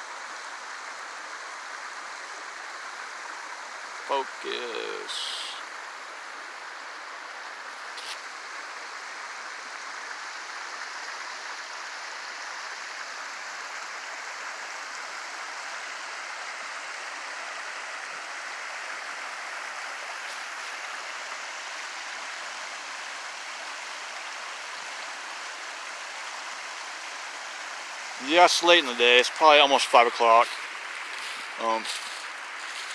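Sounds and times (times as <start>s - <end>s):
stream flowing over rocks: 0.0s - 32.9s.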